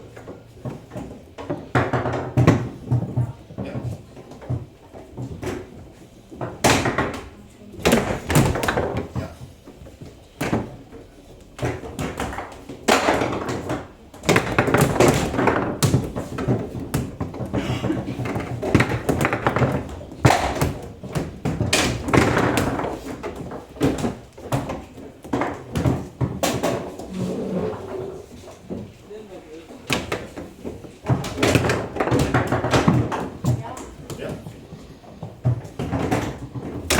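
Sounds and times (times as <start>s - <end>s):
table football knocks and thuds: 0.1s - 28.9s, 29.8s - 36.9s.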